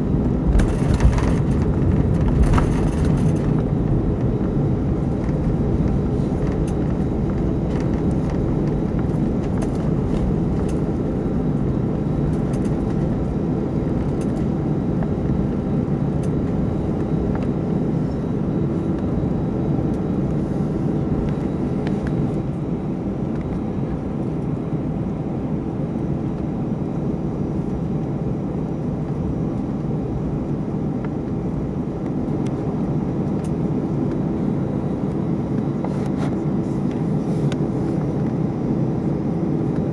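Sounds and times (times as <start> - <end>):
jet engines humming in cabin: 0.0 - 39.9.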